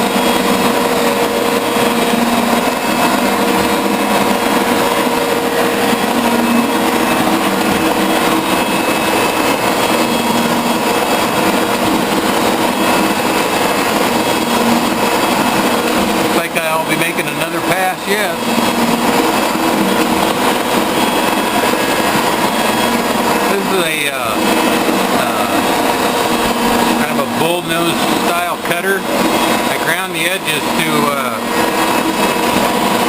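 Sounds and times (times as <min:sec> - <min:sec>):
metal shaper droning: 0:00.0 - 0:33.0.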